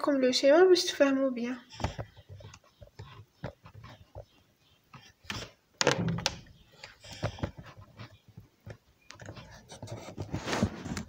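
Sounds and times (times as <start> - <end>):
handling clicks and rustles: 1.7 - 11.0.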